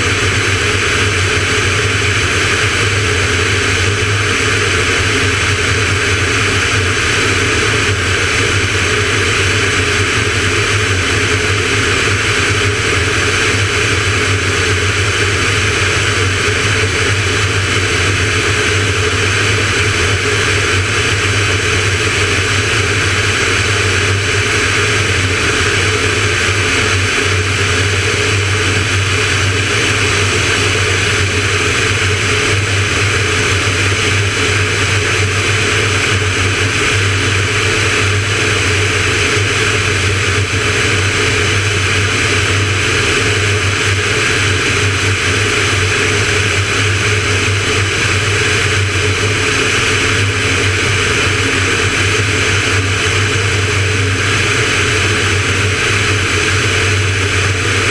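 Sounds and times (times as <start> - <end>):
aircraft engine and propeller drone: 0.0 - 57.9.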